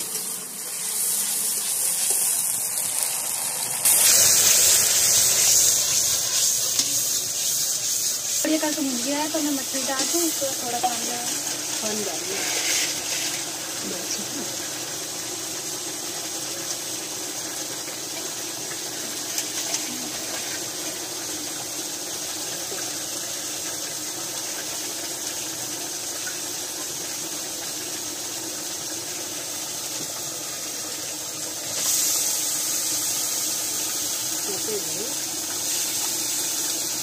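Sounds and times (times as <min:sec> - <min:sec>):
fish frying in hot oil: 0:00.0 - 0:37.0
oil hissing in a pan: 0:00.0 - 0:37.0.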